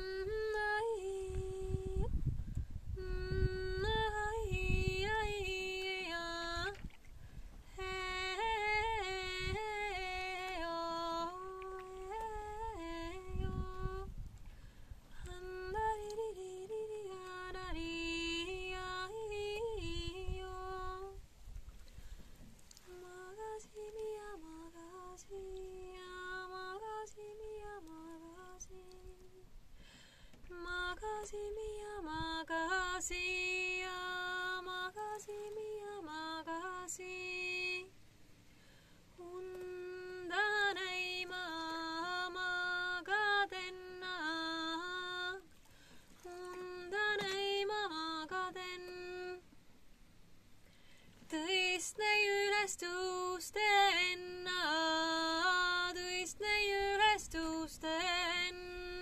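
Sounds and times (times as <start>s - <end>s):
woman singing unaccompanied: 0.0s - 6.9s, 7.6s - 14.2s, 15.1s - 21.2s, 22.8s - 29.6s, 30.4s - 38.0s, 39.1s - 45.6s, 46.2s - 49.6s, 51.3s - 59.0s.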